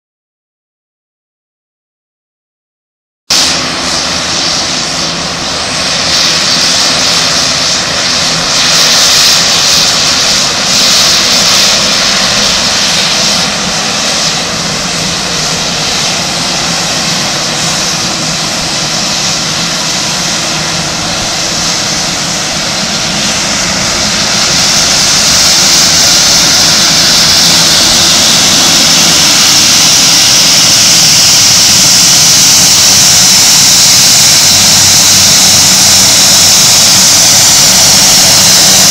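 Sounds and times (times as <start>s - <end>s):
turboprop engines running: 3.3s - 38.9s.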